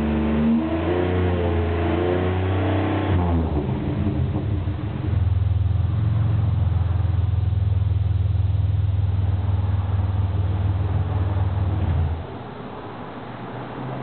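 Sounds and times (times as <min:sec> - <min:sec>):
car exhaust droning: 0:00.0 - 0:14.0.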